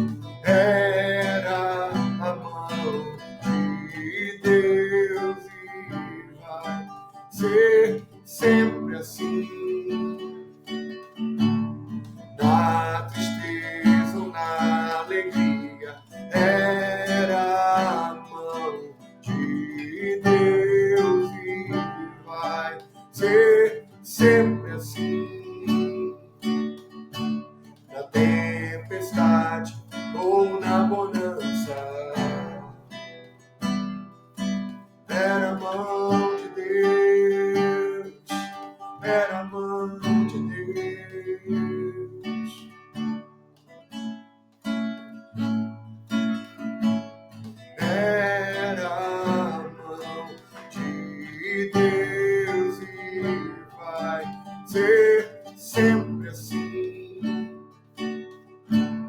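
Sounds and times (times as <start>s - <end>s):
person singing: 0.0s - 10.5s, 12.2s - 26.5s, 27.9s - 33.2s, 35.1s - 42.8s, 47.8s - 57.6s
acoustic guitar strumming: 0.0s - 59.0s.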